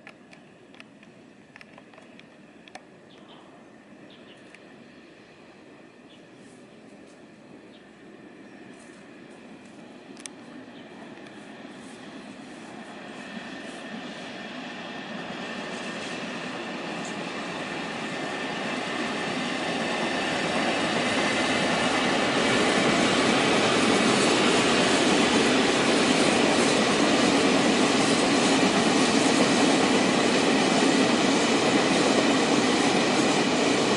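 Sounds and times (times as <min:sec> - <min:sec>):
train wheels on rails: 0:00.0 - 0:33.9.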